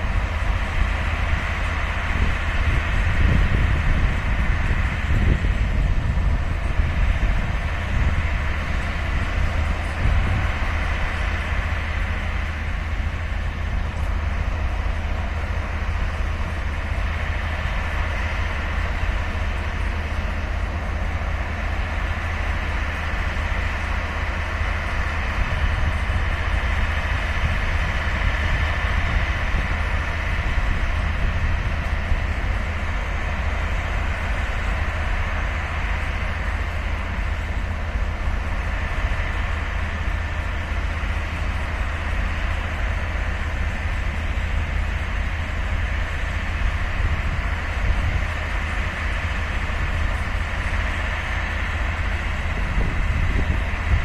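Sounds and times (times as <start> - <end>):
diesel locomotives rumbling: 0.0 - 54.0
steady high whine: 0.0 - 54.0.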